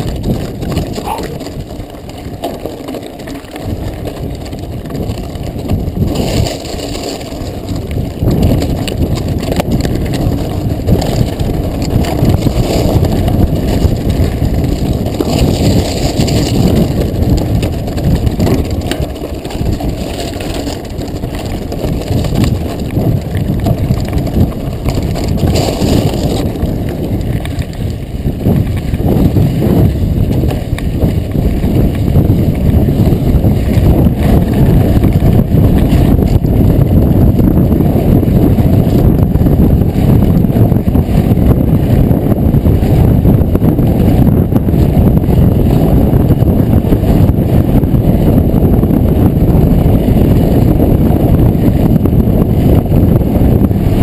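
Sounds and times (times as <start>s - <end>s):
bike rattling over bumps: 0.0s - 54.0s
bike tyres crunching on gravel: 0.0s - 54.0s.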